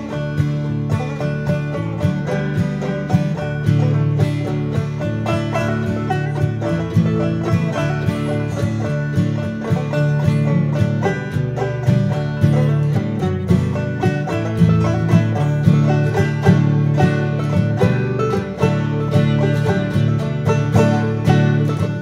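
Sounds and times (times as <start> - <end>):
bluegrass banjo and guitar music: 0.0 - 22.0.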